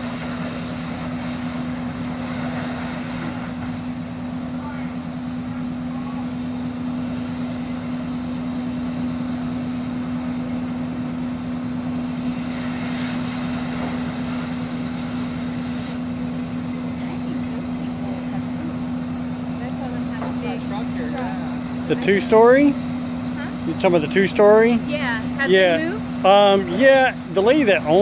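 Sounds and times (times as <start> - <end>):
fire engine idling drone: 0.0 - 28.0.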